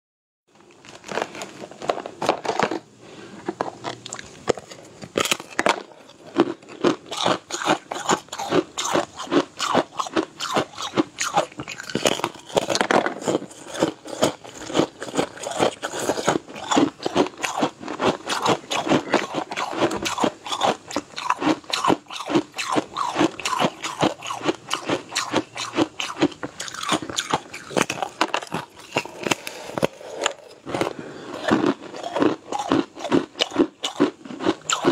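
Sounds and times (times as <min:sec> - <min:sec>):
person chewing crunchy snack: 0:00.9 - 0:34.9.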